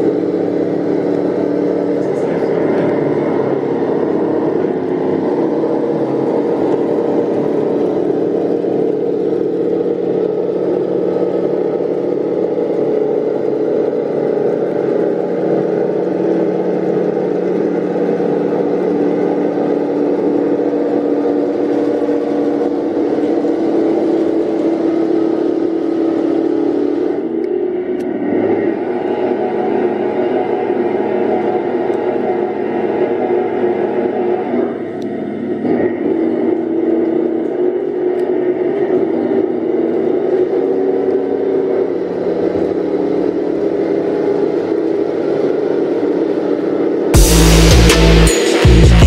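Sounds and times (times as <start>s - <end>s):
whir of drive motors: 0.0s - 47.2s
simulated tank engine from speaker: 0.0s - 48.9s.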